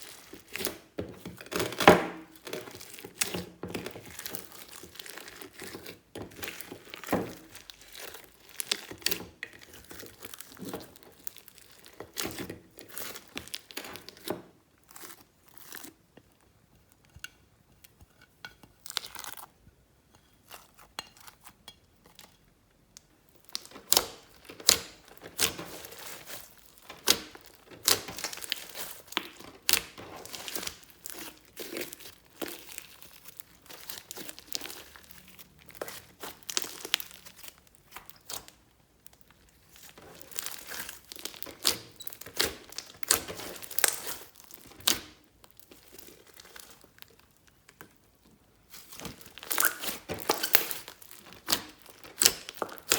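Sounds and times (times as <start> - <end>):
slime kneaded by hand: 0.0 - 17.0, 23.2 - 52.9.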